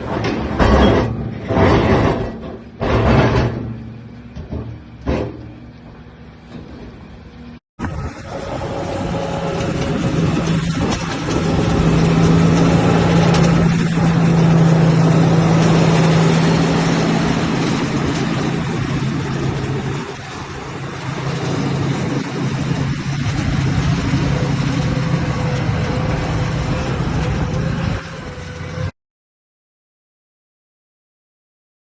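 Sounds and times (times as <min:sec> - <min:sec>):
diesel engine humming: 0:02.3 - 0:28.9.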